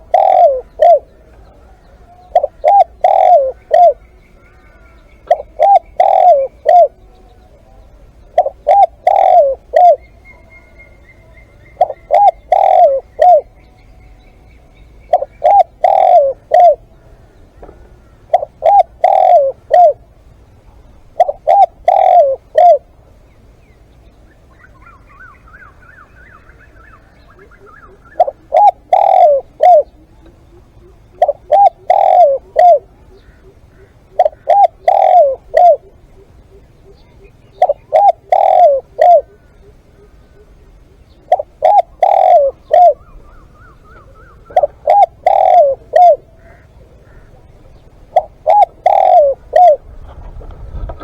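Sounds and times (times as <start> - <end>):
dove cooing: 0.0 - 14.0, 14.6 - 23.1, 24.5 - 51.0.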